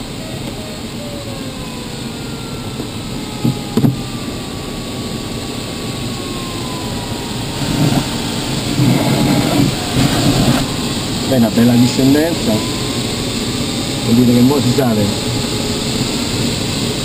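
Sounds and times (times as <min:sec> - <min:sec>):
air rushing in cockpit: 0:00.0 - 0:17.0
electronic tone sliding down: 0:00.0 - 0:17.0.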